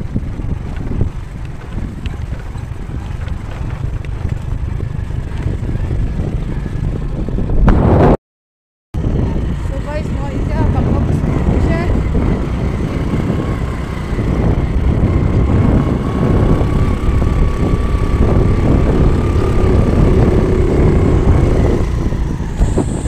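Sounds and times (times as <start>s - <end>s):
motorcycle engine rumbling: 0.0s - 8.2s, 9.0s - 23.0s.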